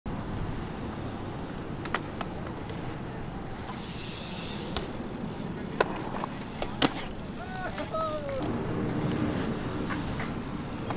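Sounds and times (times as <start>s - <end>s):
tyres rolling on concrete: 0.2s - 10.9s
bike clicks and knocks: 0.4s - 10.9s.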